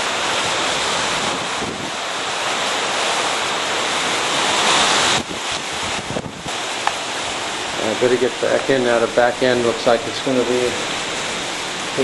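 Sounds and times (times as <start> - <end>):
hurricane wind buffeting microphone: 0.0 - 12.0.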